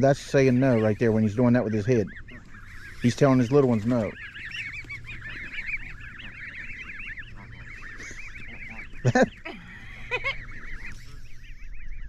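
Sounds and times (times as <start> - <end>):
goose honk: 0.0 - 11.7
goslings peeping: 0.0 - 12.0.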